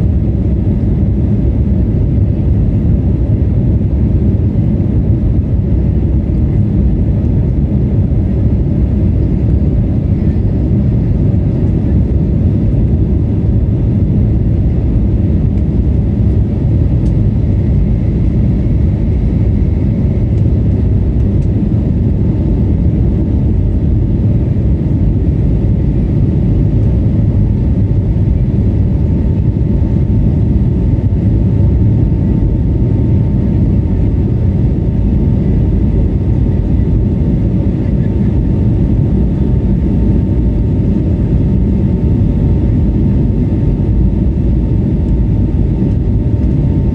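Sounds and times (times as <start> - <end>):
jet engines rumbling in cabin: 0.0 - 46.9.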